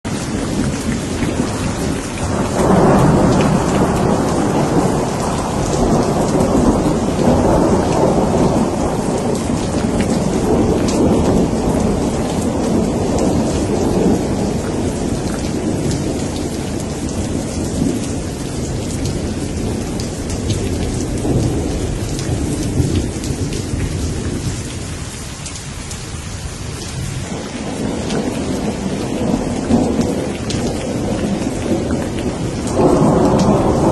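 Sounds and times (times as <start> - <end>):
rolling thunder rumble: 0.1 - 25.2, 25.9 - 33.9
heavy rain hissing: 0.1 - 33.9.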